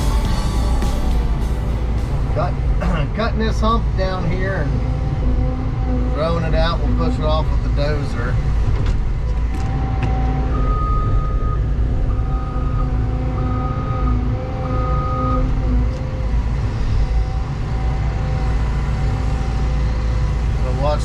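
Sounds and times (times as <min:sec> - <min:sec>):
diesel engine rumbling under load: 0:00.0 - 0:21.0
whining tones: 0:00.0 - 0:21.0.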